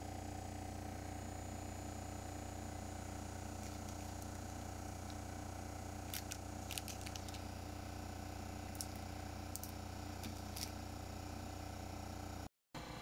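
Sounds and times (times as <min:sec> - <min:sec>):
disc player humming: 0:00.0 - 0:13.0.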